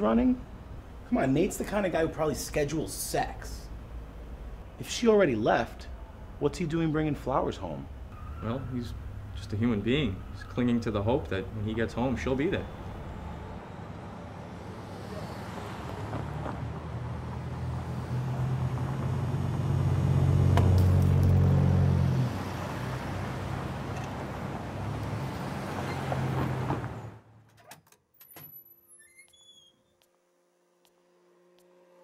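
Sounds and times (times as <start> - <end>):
low traffic rumble: 0.0 - 27.5
vehicles running and passing: 0.0 - 27.6.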